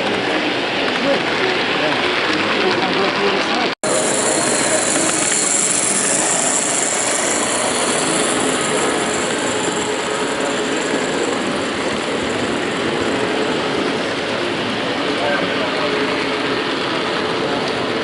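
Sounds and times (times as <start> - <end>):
exhibition hall din: 0.0 - 18.0
model train running on track: 0.0 - 18.0.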